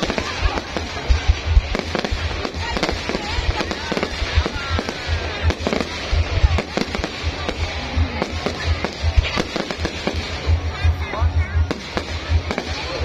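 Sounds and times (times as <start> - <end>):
fireworks bangs and booms: 0.0 - 13.0.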